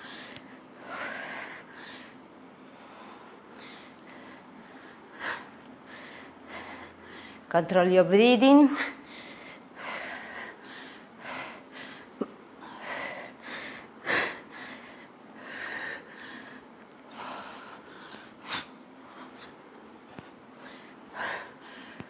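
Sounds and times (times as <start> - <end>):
woman breathing hard: 0.0 - 7.5, 8.8 - 22.0.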